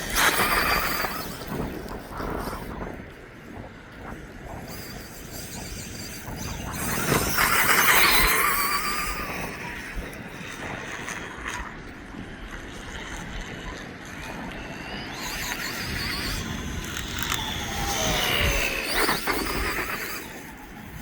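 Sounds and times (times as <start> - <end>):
electric toy motorbike motor whining: 0.0 - 21.0
wind noise: 0.0 - 21.0.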